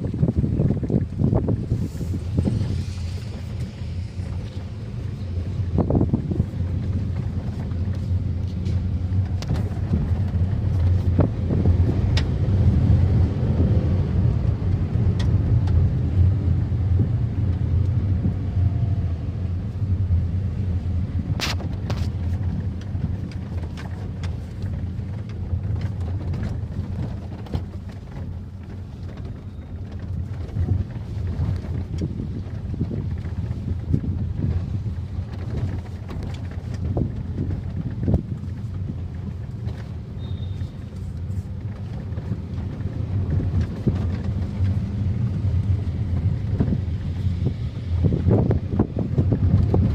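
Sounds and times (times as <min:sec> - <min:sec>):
car engine and road noise: 0:00.0 - 0:49.9
wind buffeting microphone: 0:00.0 - 0:49.9.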